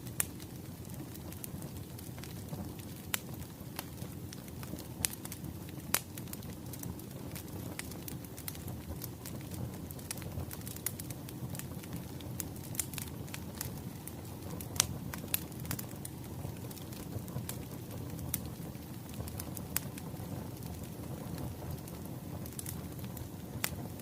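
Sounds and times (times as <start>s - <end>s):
low rumble of burning logs: 0.0s - 24.0s
wood fire popping and snapping: 0.0s - 24.0s.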